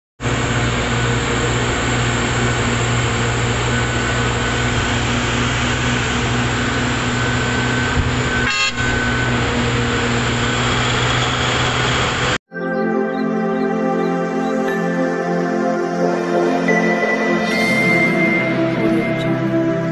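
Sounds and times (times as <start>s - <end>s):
heavy diesel engines droning: 0.2s - 12.4s, 14.1s - 19.9s.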